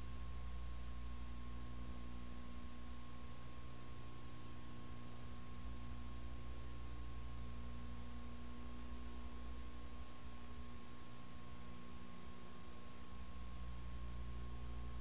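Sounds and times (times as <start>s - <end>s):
constant hiss: 0.0s - 15.0s
electrical hum: 0.0s - 15.0s.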